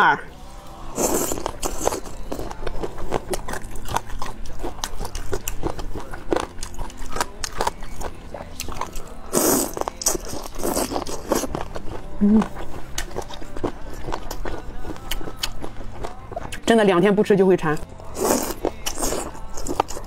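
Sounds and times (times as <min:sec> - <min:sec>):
biting and chewing: 0:00.9 - 0:16.7, 0:17.8 - 0:20.0.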